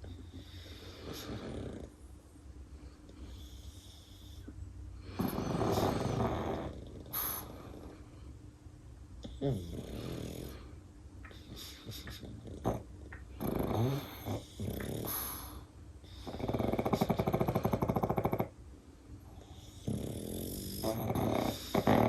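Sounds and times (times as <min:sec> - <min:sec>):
dogs snoring: 0:00.0 - 0:02.1, 0:02.8 - 0:08.3, 0:09.2 - 0:18.6, 0:19.2 - 0:22.0.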